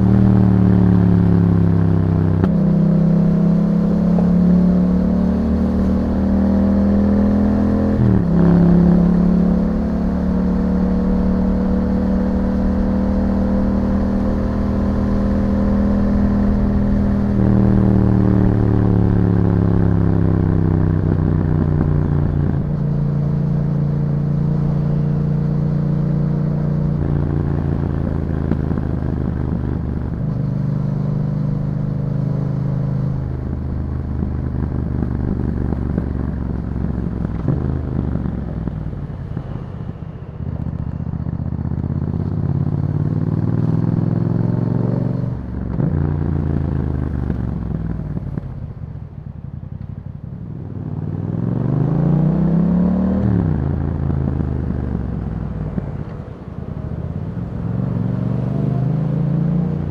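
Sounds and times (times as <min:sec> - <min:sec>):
motorcycle engine being ridden: 0:00.0 - 0:59.9.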